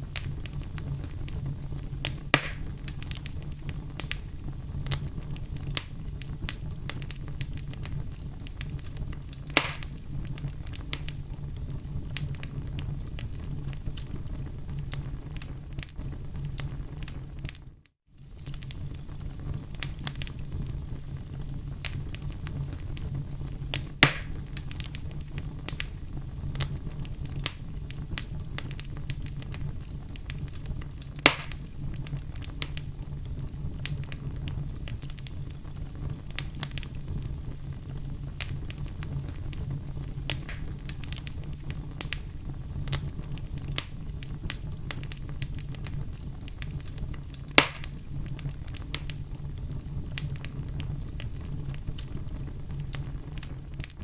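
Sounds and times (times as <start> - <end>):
fire crackling in fireplace: 0.0 - 54.0
loud fire pops: 0.0 - 54.0.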